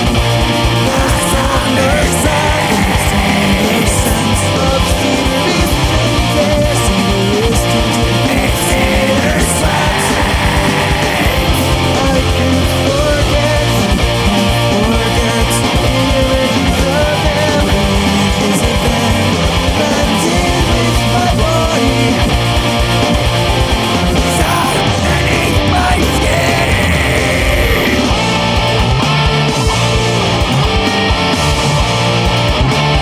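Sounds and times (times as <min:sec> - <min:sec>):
death metal instrumental: 0:00.0 - 0:33.0.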